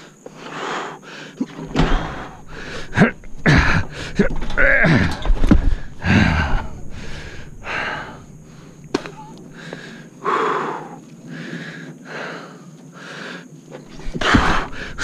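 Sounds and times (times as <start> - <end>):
man gasping breaths: 0.0 - 13.4, 14.0 - 15.0.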